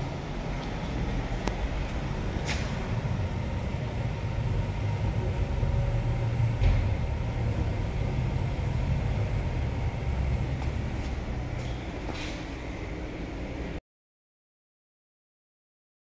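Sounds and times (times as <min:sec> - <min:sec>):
lift travelling hum and rumble: 0:00.0 - 0:13.8.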